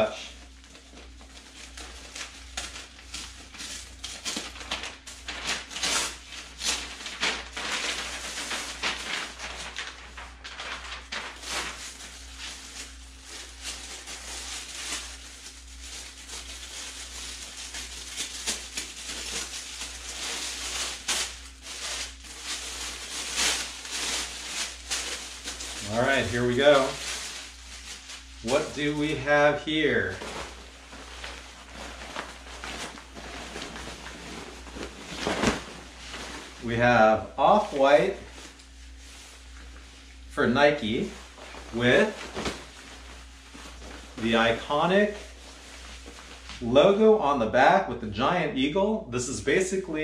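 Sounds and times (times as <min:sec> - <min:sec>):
paper and plastic bag crinkling: 0:00.0 - 0:47.1
steady low hum: 0:00.0 - 0:50.0.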